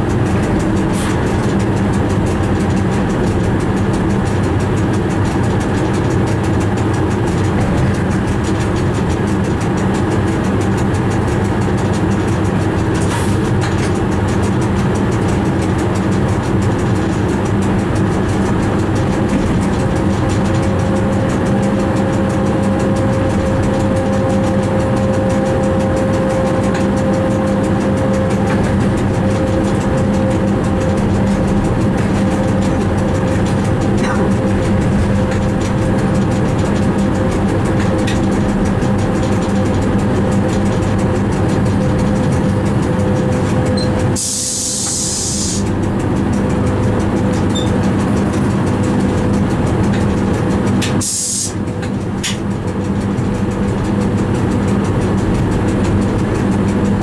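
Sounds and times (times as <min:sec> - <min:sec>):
steady whine: 0:00.0 - 0:57.0
train cab hum and rumble: 0:00.0 - 0:57.0.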